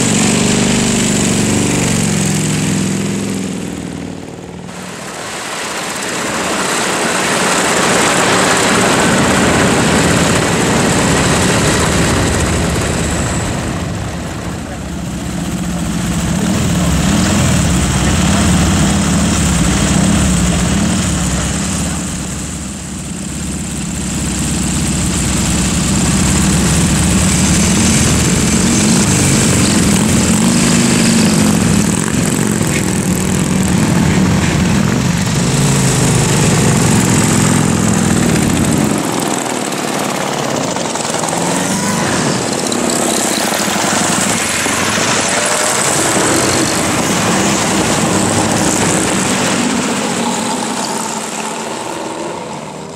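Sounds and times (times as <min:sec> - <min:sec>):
engines revving: 0:00.0 - 0:52.9.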